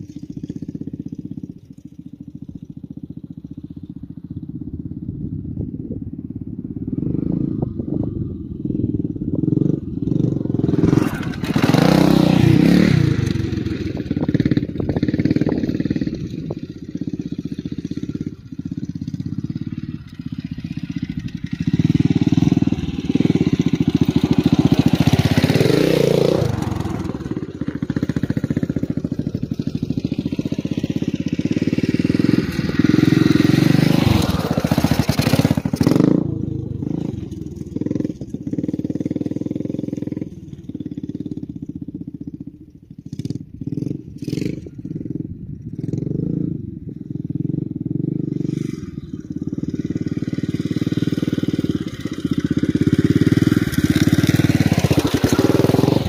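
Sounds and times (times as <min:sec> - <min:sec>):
dirt bike engine revving: 0:06.9 - 0:41.5, 0:43.1 - 0:56.0.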